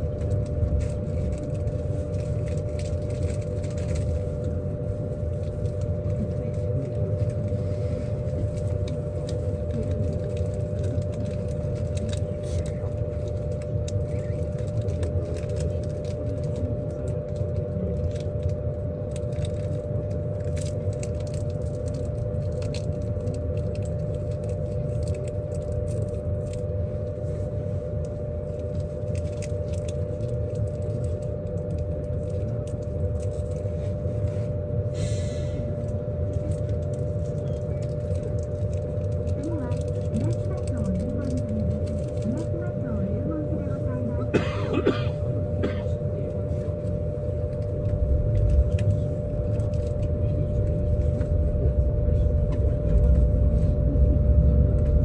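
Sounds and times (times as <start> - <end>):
electrical hum: 0.0 - 55.0
low rumble: 0.0 - 55.0.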